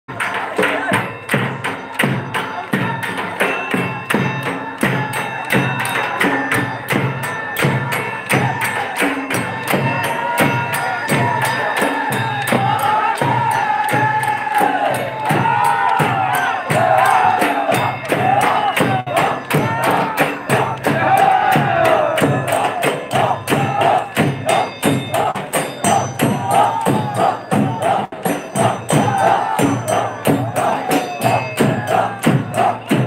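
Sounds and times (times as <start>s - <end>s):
drums and jingling percussion: 0.1s - 33.0s.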